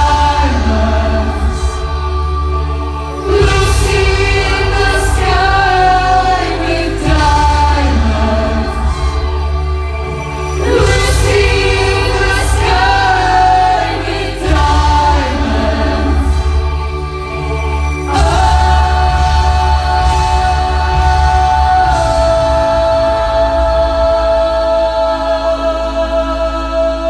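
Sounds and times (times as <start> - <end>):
choir-like singing voices: 0.0 - 27.0
deep sustained bass: 0.0 - 27.0.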